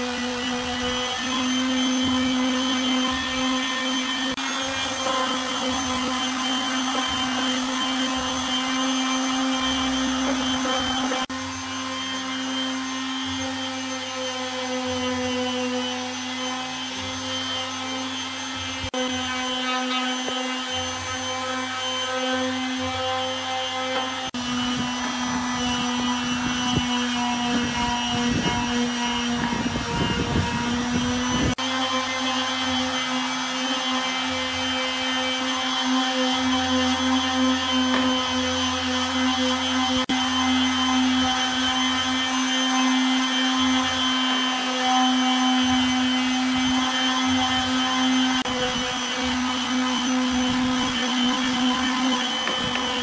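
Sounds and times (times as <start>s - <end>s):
electric sander on wood: 0.0s - 53.0s.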